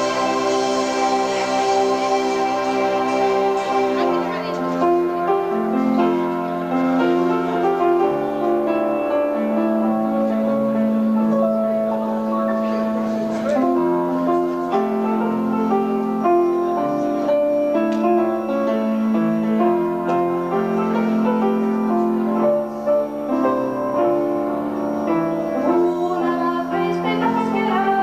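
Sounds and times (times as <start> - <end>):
keyboard chords: 0.0 - 28.0.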